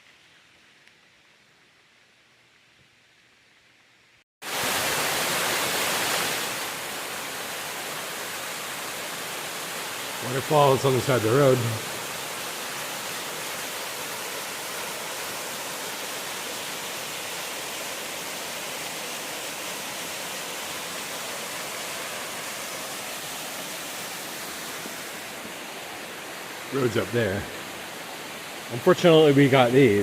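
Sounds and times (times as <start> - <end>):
waterfall rushing: 4.4 - 30.0.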